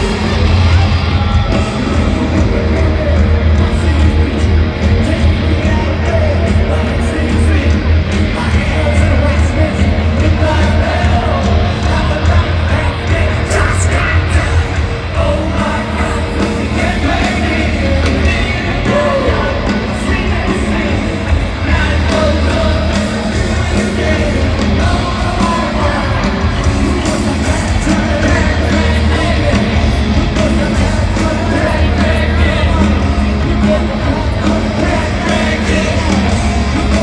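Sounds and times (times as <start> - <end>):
electric guitars: 0.0 - 37.0
live hard rock band: 0.0 - 37.0
person singing: 0.0 - 37.0.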